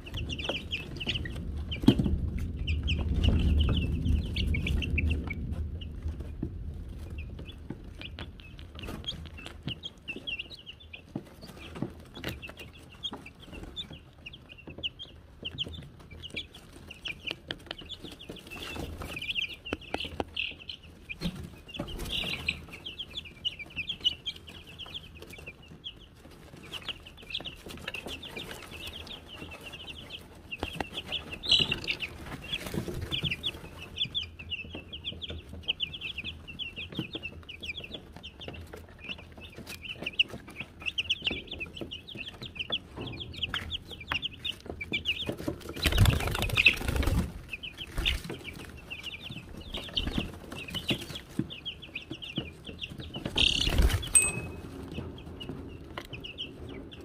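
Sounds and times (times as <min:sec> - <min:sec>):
chicks pecking in wood shavings: 0:00.0 - 0:57.0
chicks peeping: 0:00.0 - 0:57.0.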